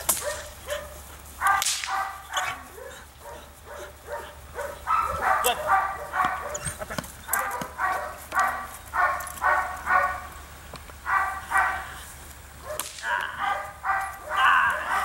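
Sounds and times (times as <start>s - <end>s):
dog barking: 0.1s - 10.3s, 11.0s - 12.0s, 12.6s - 15.0s.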